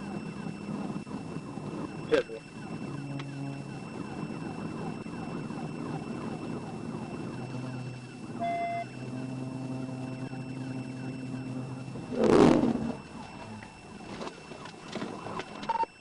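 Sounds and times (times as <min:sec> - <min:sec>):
car engine and road noise: 0:00.0 - 0:15.7
police siren sweeping: 0:00.0 - 0:16.0.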